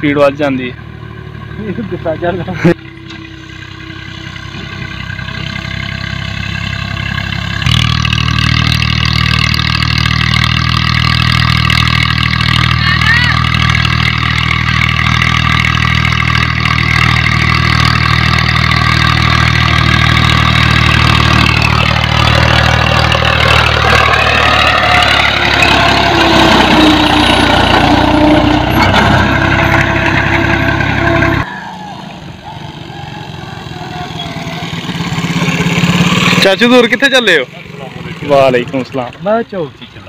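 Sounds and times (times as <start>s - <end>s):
motorcycle engine approaching: 0.0s - 31.5s, 32.3s - 40.0s
tractor diesel engine running: 0.0s - 40.0s.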